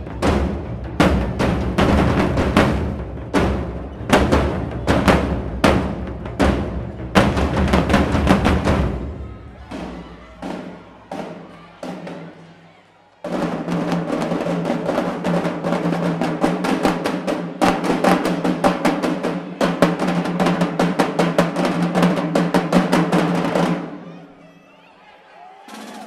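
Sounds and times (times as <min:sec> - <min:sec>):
marching drumline playing: 0:00.0 - 0:12.6, 0:13.2 - 0:24.0, 0:25.7 - 0:26.0.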